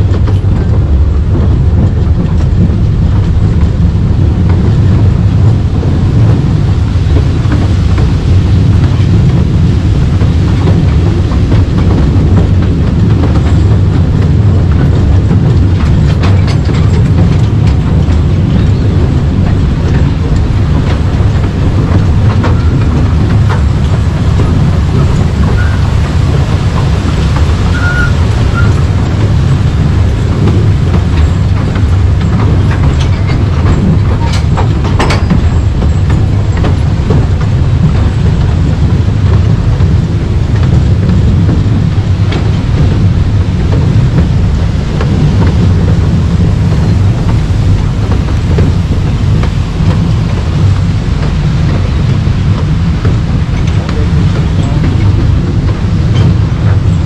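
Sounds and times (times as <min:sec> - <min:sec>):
train rumbling along track: 0:00.0 - 0:57.0.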